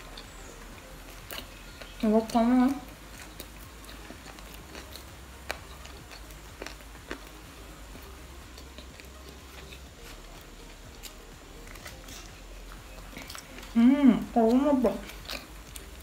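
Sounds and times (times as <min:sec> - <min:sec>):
chewing and biting bread: 0:00.0 - 0:16.0.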